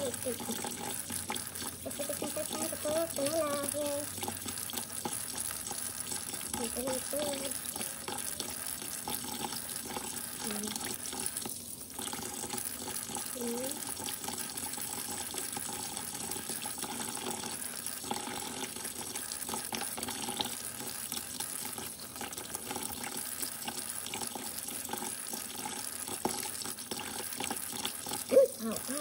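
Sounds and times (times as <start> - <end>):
tap water running into sink: 0.0 - 29.0.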